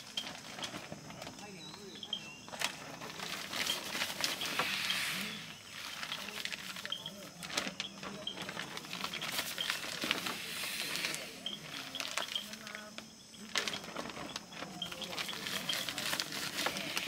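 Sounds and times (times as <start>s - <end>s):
bag rustling: 0.0s - 17.0s.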